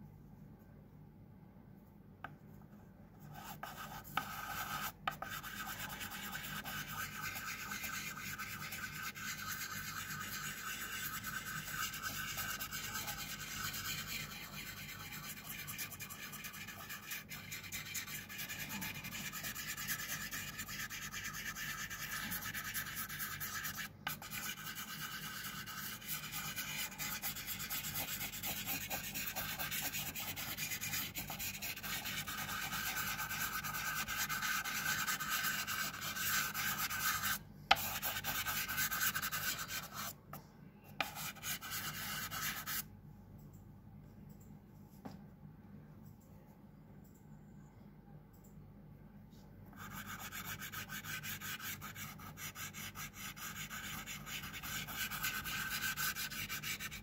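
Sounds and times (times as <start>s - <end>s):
pastel scribbling on paper: 3.3s - 40.1s, 41.0s - 42.8s, 49.8s - 57.0s.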